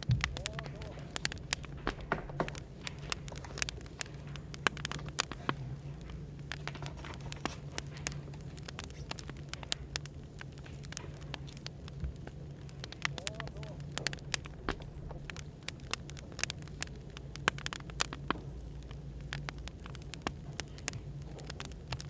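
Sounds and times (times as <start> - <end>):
firewood crackling and popping: 0.0 - 22.0
low background hum: 0.0 - 22.0.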